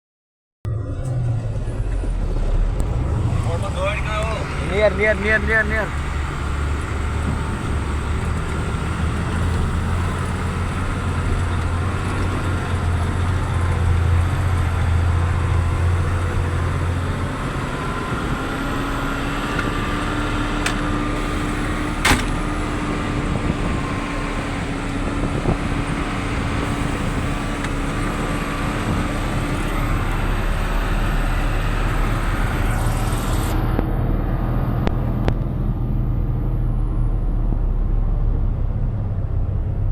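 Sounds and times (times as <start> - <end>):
vehicle engine and road noise: 0.7 - 39.9.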